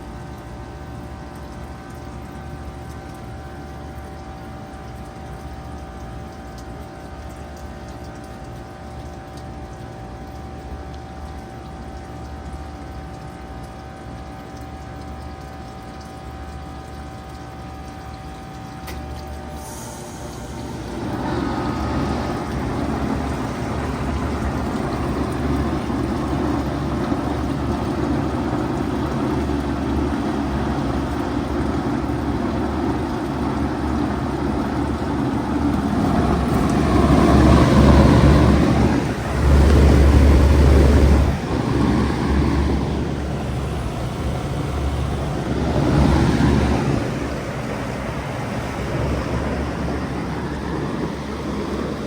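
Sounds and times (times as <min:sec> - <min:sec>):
heat pump whooshing and rumbling: 0:00.0 - 0:52.0.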